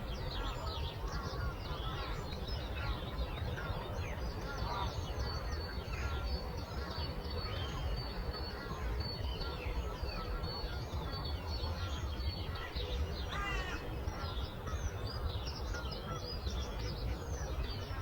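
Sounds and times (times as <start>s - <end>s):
songbirds chirping and warbling: 0.0s - 18.0s.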